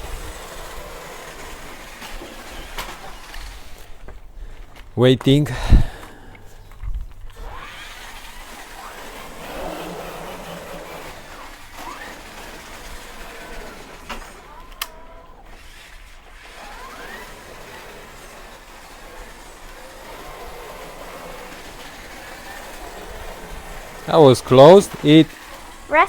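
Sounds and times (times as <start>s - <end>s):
toy car electric motors whirring: 0.0s - 5.0s, 5.6s - 26.0s.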